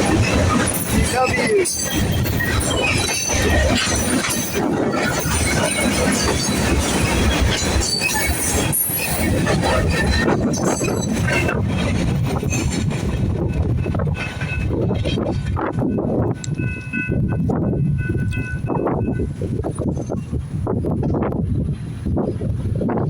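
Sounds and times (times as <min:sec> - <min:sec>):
train wheels rumbling and clicking: 0:00.0 - 0:23.0.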